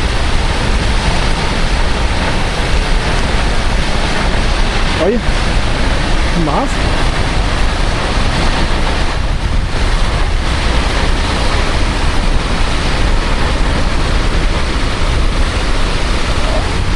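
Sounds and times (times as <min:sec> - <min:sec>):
waterfall roaring: 0:00.0 - 0:16.9
wind buffeting microphone: 0:00.0 - 0:16.9.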